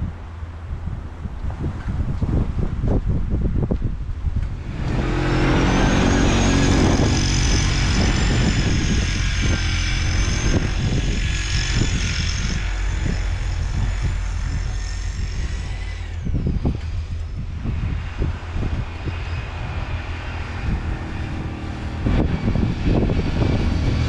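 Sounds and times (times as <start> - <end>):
vehicle engine whining: 3.5 - 24.0.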